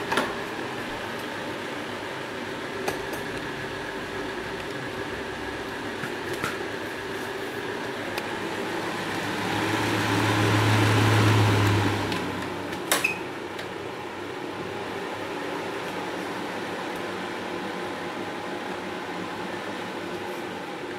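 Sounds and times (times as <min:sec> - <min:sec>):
electric fan whirring: 0:00.0 - 0:20.9.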